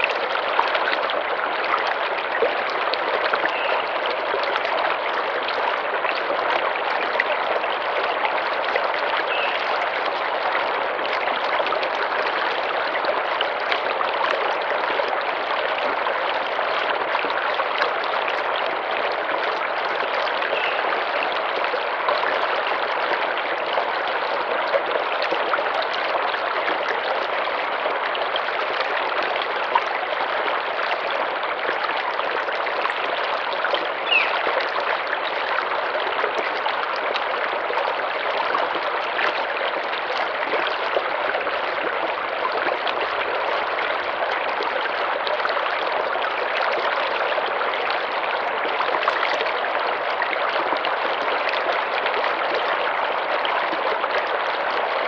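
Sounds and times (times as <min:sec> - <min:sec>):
river flowing: 0:00.0 - 0:55.0.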